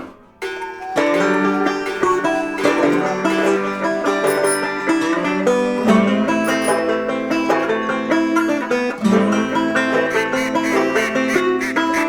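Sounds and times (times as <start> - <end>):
plucked string instrumental music: 0.0 - 12.0.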